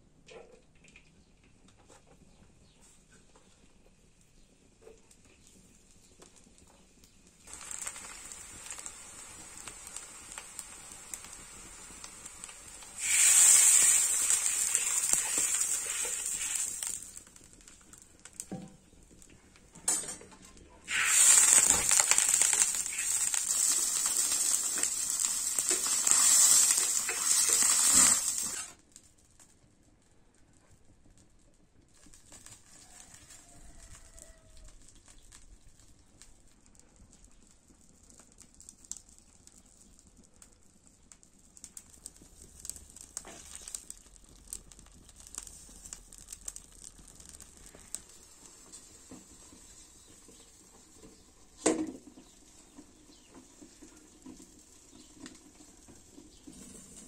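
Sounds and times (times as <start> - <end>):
onion and mince sizzling in oil: 4.3 - 28.8, 31.9 - 57.0.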